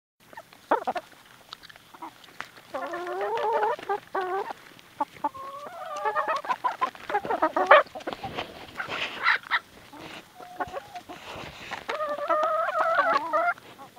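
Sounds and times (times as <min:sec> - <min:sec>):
hens clucking: 0:00.2 - 0:13.9.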